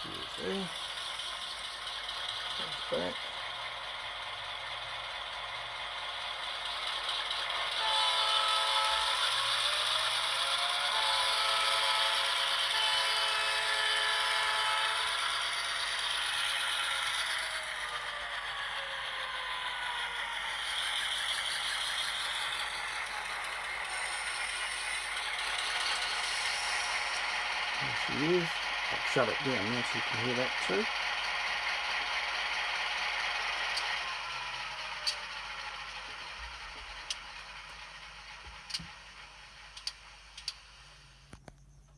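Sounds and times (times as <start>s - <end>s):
diesel engine sound from small speaker: 0.0s - 41.9s.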